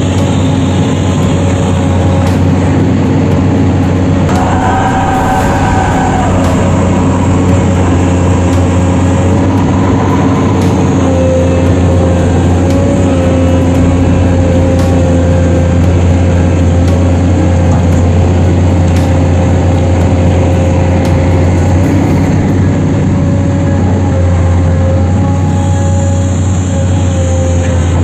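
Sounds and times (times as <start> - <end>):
heavy machinery engine drone: 0.0 - 28.0
high whine: 0.0 - 28.0.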